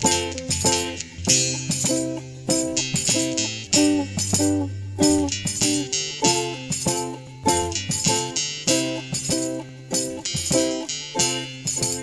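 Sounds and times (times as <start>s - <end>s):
strummed string instrument chords: 0.0s - 12.0s.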